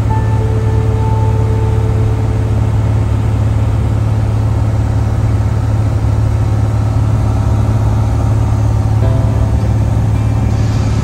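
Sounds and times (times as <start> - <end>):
airplane engine drone in cabin: 0.0 - 11.0.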